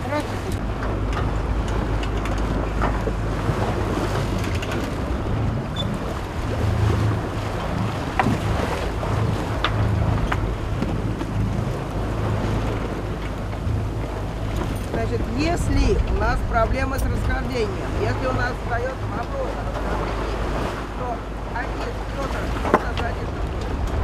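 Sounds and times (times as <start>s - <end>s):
choppy sea waves: 0.0s - 24.0s
wind buffeting microphone: 0.0s - 24.0s.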